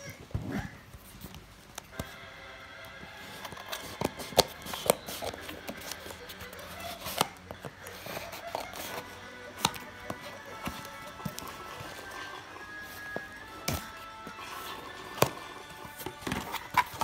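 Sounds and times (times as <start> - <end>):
soft background music: 1.8 - 17.0
scissors cutting packing tape: 3.3 - 17.0.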